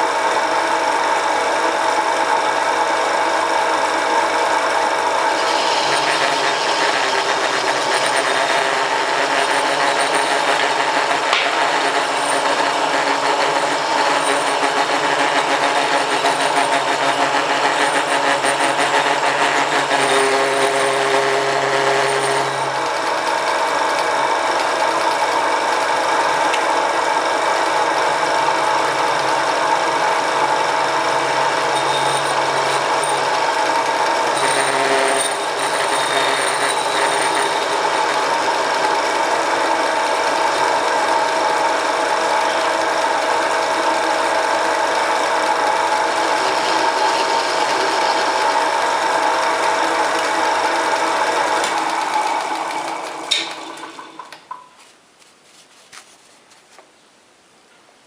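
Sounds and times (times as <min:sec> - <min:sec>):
lathe motor whining: 0:00.0 - 0:54.6
lathe rattling: 0:03.5 - 0:54.7.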